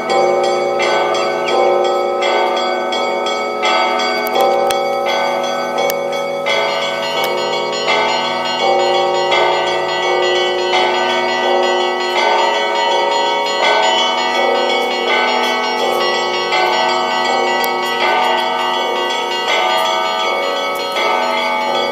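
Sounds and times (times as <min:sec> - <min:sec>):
church bells pealing: 0:00.0 - 0:21.9.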